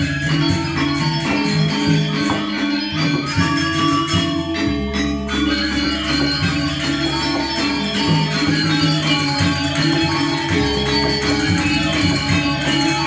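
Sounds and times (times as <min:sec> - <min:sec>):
bright metallic strikes: 0:00.0 - 0:13.0
hand drum: 0:00.0 - 0:13.0
metallophones and gongs ringing: 0:00.0 - 0:13.0.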